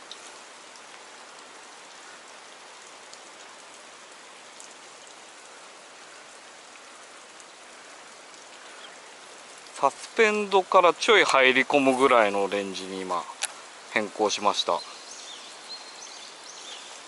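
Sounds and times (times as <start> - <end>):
river current hissing: 0.0 - 17.0.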